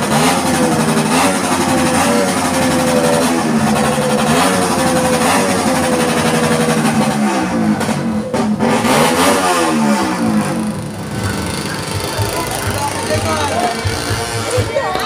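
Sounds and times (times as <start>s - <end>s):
engines revving: 0.0s - 15.0s.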